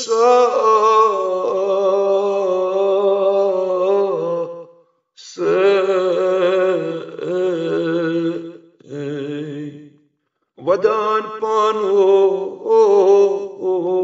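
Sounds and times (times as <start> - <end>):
man singing unaccompanied: 0.0 - 10.0, 10.6 - 14.0.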